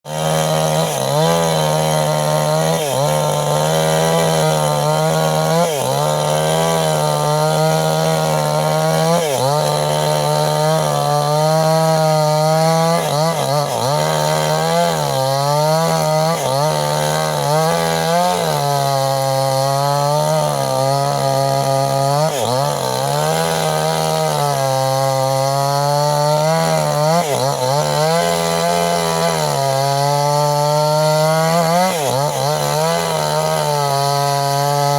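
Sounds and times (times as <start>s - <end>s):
chainsaw sawing wood: 0.0s - 34.9s.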